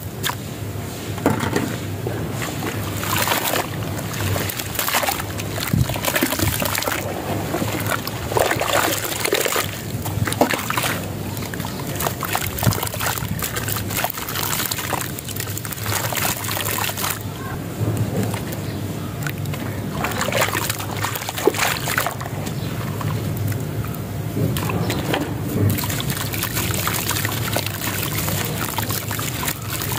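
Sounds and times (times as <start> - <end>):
hands sloshing wet sand in water: 0.0 - 23.7, 24.5 - 29.9.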